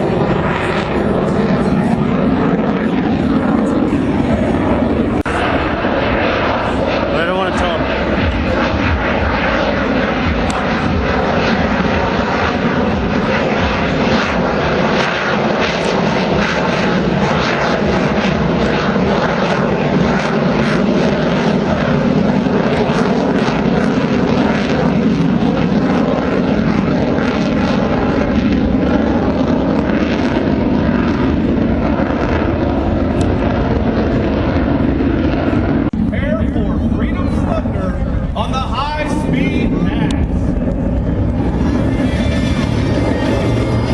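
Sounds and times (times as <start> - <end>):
airplane engine noise: 0.0 - 43.9.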